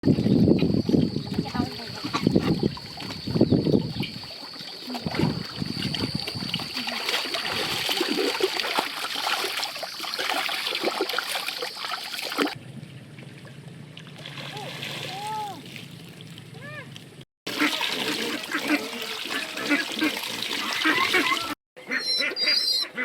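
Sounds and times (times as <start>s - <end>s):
water splashing and trickling: 0.0s - 21.6s.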